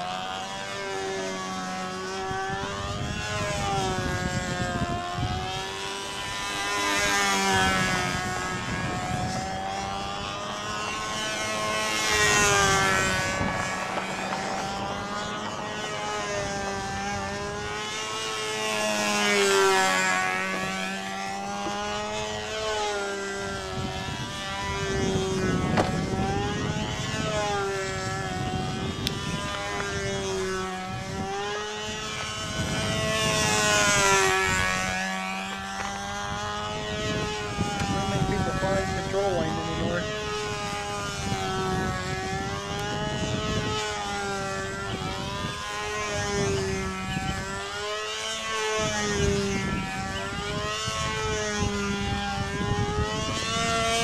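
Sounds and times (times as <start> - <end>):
model airplane motor: 0.0 - 54.0.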